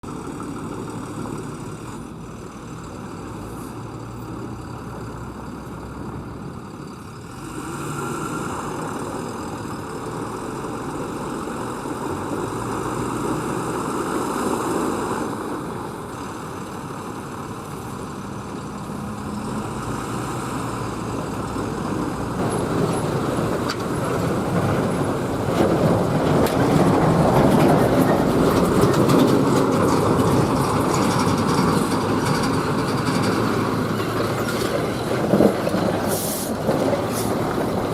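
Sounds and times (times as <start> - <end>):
trucks rumbling along a road: 0.0 - 37.9.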